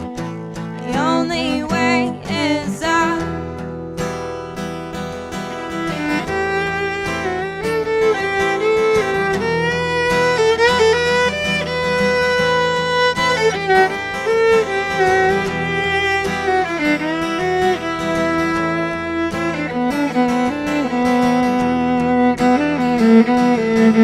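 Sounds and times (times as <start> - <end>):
strummed acoustic guitar: 0.0 - 24.0
violin: 0.0 - 24.0.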